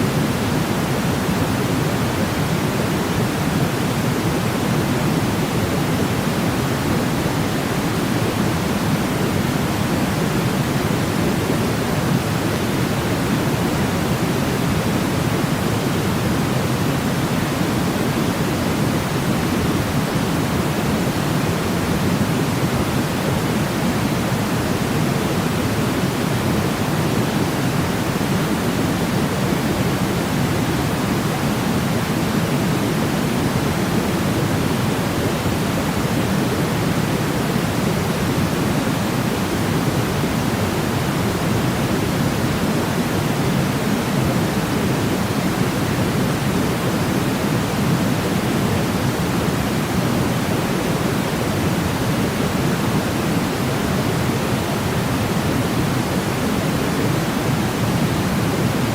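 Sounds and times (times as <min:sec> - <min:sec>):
low white noise hiss: 0:00.0 - 0:58.9.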